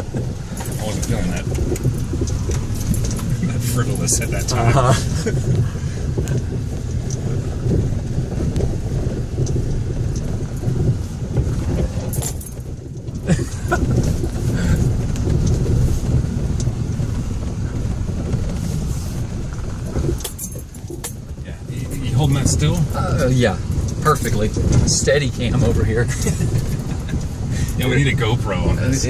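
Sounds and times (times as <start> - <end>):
loose rattles and knocks: 0.0 - 15.9, 19.5 - 27.5
truck engine and tyre rumble: 0.0 - 29.0.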